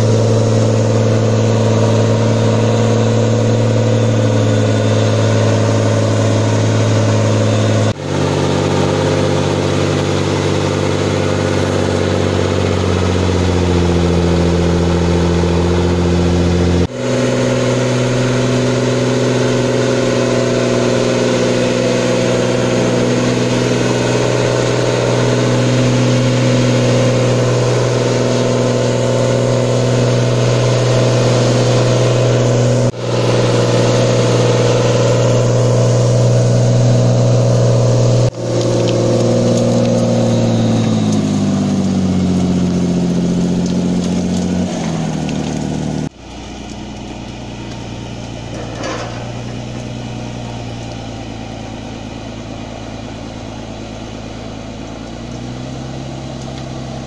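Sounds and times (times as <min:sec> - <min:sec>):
engine running at high revs: 0:00.0 - 0:57.0.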